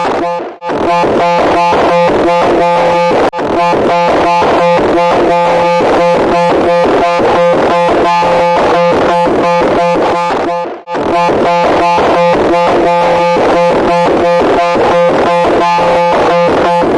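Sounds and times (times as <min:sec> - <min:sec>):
harsh electronic tone pulsing: 0:00.0 - 0:16.9.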